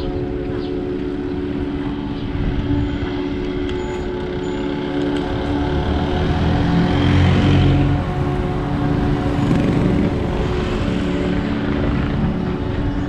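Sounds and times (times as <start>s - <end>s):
engine humming steadily: 0.0s - 13.0s
lower engine note: 0.0s - 13.0s
wind and road rumble: 0.0s - 13.0s.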